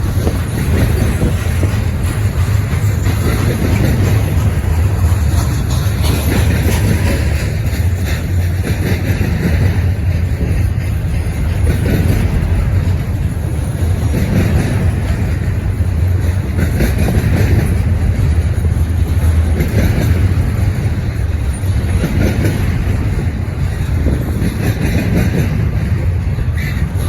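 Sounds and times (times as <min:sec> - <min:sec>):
freight train wheels rumbling on rail: 0:00.0 - 0:27.0.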